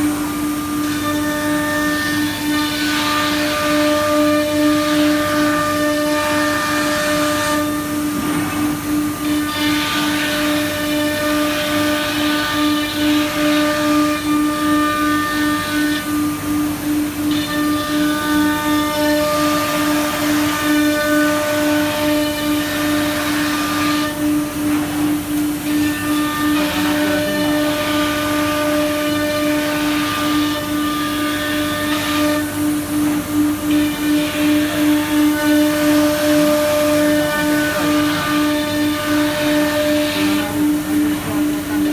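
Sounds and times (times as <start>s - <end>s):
cnc router whine: 0.0s - 41.9s.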